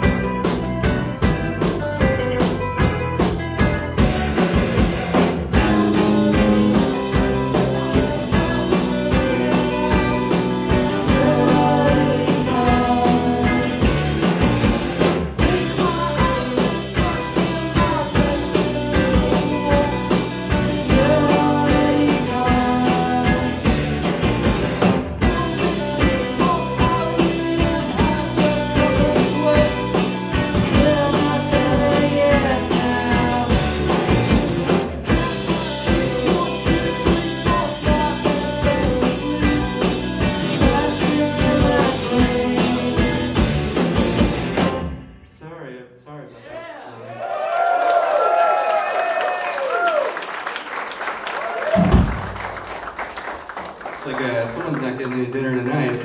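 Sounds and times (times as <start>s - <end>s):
live rock band playing: 0.0s - 45.3s, 51.6s - 55.1s.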